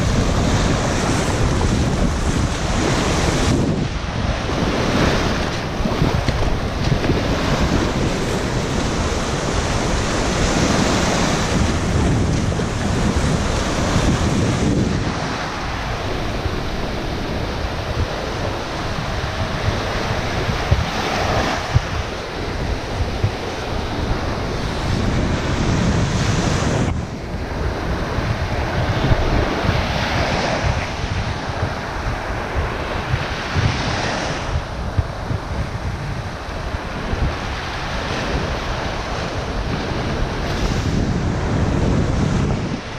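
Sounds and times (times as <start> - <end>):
surf washing up sandy shore: 0.0 - 42.9
wind buffeting microphone: 0.0 - 42.9.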